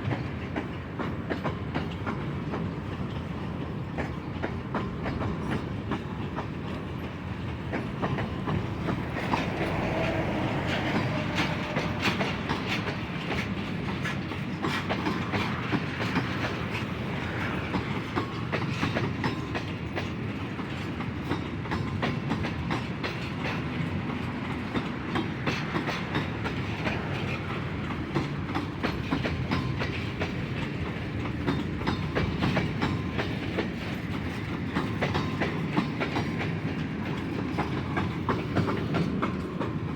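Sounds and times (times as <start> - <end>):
freight train cars rumbling past: 0.0 - 39.9
wheels clicking over rail joints: 0.0 - 39.9.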